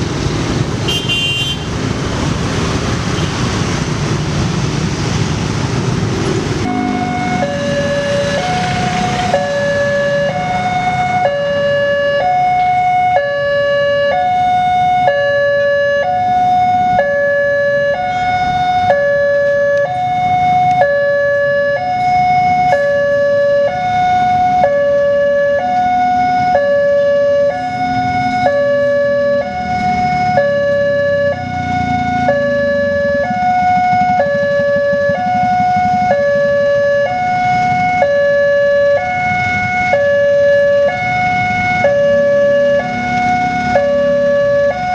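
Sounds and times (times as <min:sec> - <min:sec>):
road traffic rumble: 0:00.0 - 0:44.9
two-tone level-crossing siren: 0:06.6 - 0:44.9.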